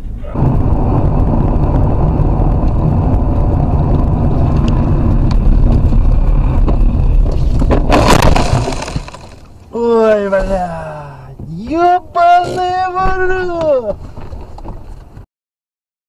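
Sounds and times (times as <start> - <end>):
car engine and road noise: 0.0 - 15.2.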